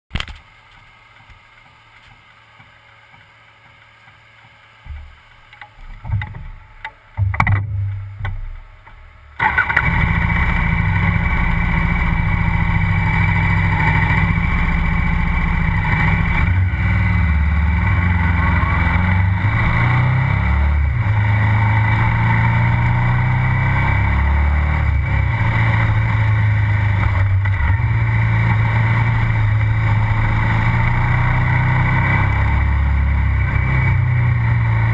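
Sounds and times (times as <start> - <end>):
motorcycle engine revving: 6.0 - 34.9.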